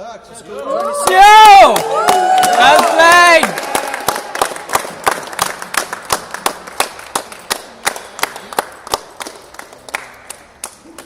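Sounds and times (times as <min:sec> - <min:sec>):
small group clapping: 0:00.7 - 0:11.0.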